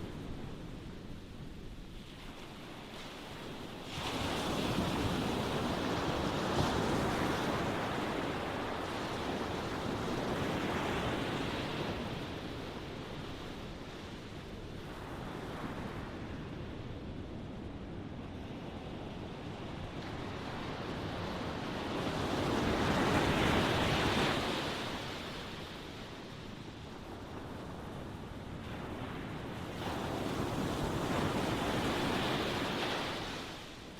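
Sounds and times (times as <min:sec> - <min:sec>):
ocean waves breaking on shore: 0:00.0 - 0:33.9.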